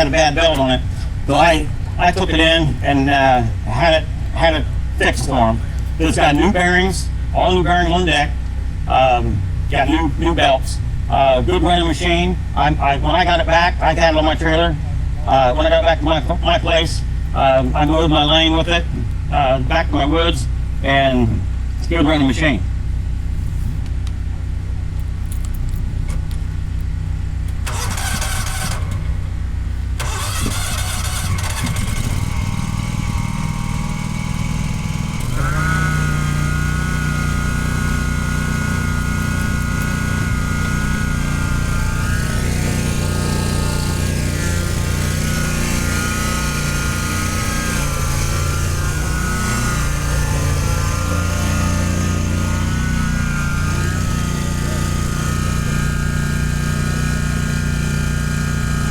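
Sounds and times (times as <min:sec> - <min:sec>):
mower engine running: 0:00.0 - 0:58.9
steady whine: 0:00.0 - 0:58.9.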